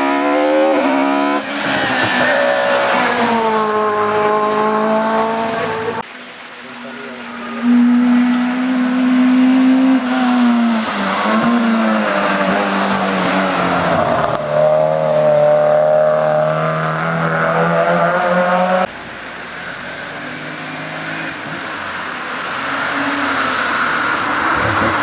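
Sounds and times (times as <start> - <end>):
race car engines at high revs: 0.0 - 6.1, 7.2 - 25.0
quieter car engine: 0.0 - 25.0.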